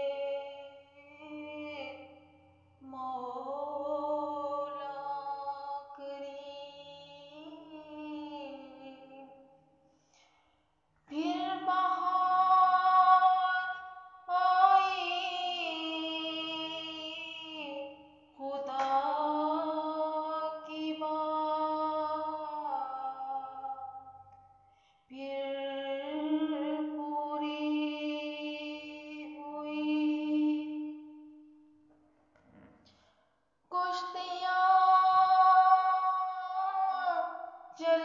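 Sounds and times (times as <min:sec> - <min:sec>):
woman singing unaccompanied: 0:00.0 - 0:02.2, 0:02.8 - 0:09.3, 0:11.1 - 0:24.0, 0:25.1 - 0:31.3, 0:33.7 - 0:38.0.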